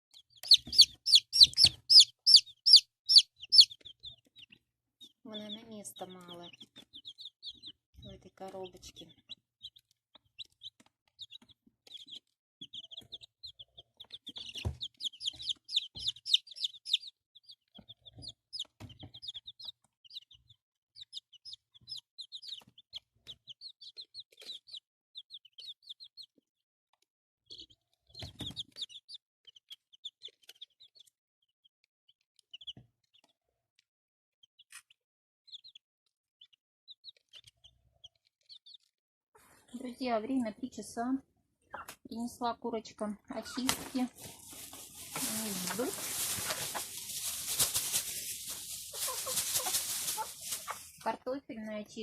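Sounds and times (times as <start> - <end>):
chicks peeping: 0.1 - 26.4, 27.4 - 31.1, 31.7 - 33.4, 34.5 - 35.8, 36.4 - 40.8, 41.7 - 52.0.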